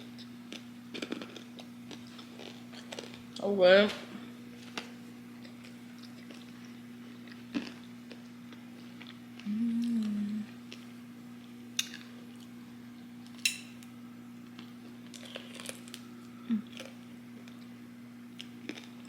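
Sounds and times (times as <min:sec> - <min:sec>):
person eating with crunches: 0:00.0 - 0:03.4, 0:04.5 - 0:13.4, 0:14.4 - 0:19.0
steady low hum: 0:00.0 - 0:19.0
quiet chewing: 0:00.1 - 0:03.4, 0:04.6 - 0:12.6, 0:14.4 - 0:19.0.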